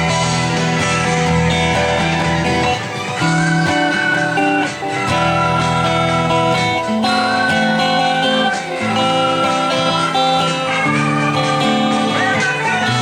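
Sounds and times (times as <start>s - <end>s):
guitar-led music: 0.0s - 13.0s.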